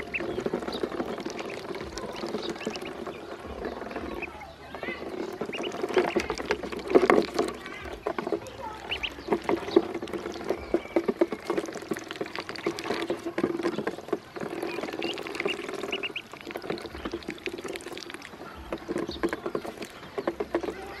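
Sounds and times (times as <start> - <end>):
ducklings pecking at dish: 0.0 - 21.0
ducklings peeping: 0.0 - 21.0.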